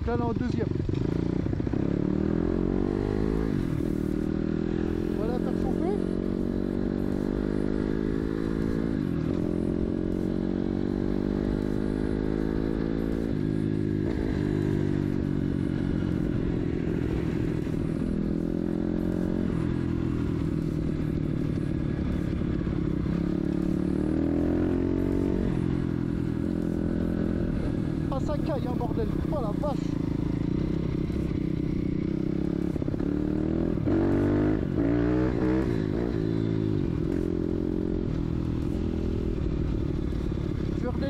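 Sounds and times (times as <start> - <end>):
motorbike engine revving: 0.0 - 41.0.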